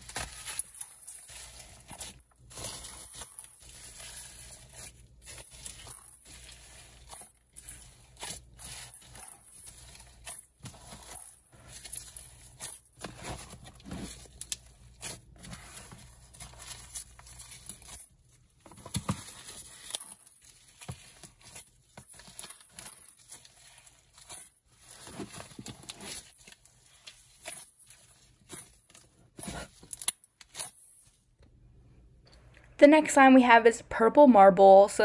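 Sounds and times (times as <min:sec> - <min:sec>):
foam slime crackling and popping: 0:00.0 - 0:31.1.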